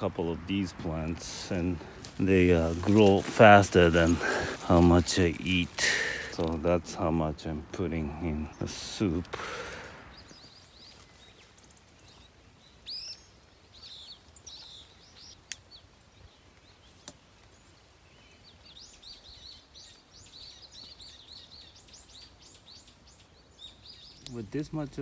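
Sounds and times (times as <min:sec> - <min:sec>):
faint steady background noise: 0:00.0 - 0:25.0
small birds chirping: 0:00.0 - 0:25.0.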